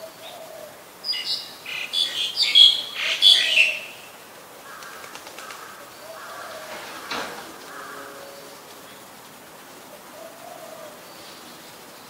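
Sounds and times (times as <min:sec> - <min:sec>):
starling calling: 0:00.0 - 0:12.0.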